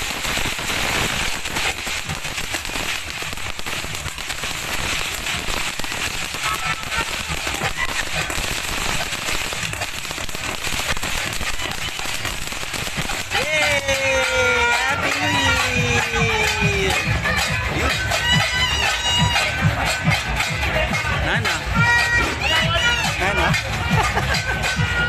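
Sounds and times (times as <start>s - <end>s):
firework crackling hiss: 0.0s - 22.0s.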